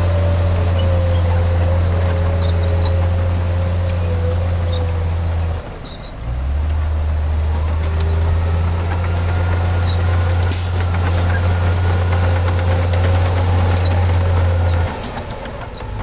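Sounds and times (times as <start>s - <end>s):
heavy diesel engine droning: 0.0s - 16.0s.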